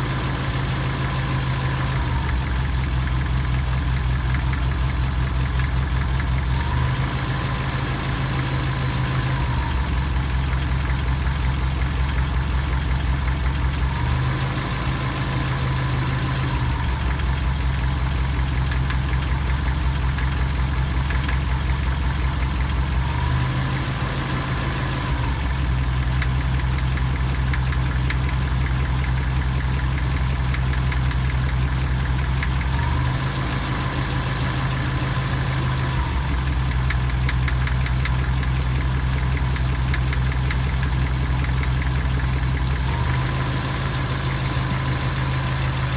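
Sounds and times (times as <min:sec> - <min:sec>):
engine idling with a knock: 0:02.0 - 0:06.7, 0:07.7 - 0:14.1, 0:14.9 - 0:24.5, 0:25.2 - 0:33.8, 0:35.9 - 0:45.9.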